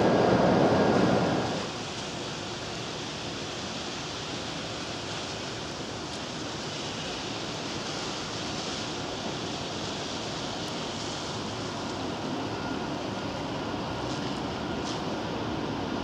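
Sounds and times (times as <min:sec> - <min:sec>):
rain falling on ground: 0:01.6 - 0:16.0.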